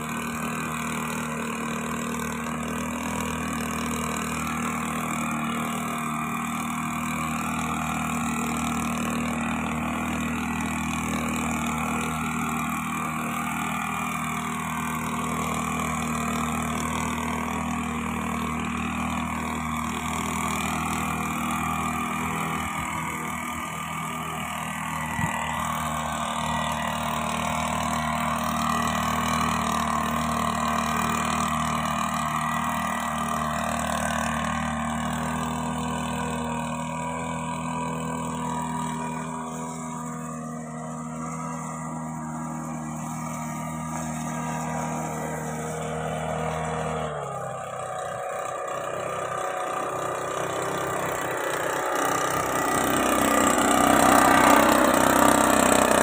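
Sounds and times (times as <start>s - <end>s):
mist blower engine running: 0.0s - 56.0s.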